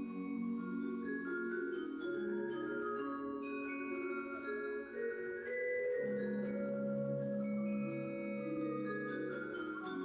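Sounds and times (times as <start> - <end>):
marimbas and vibraphones playing: 0.0 - 10.0.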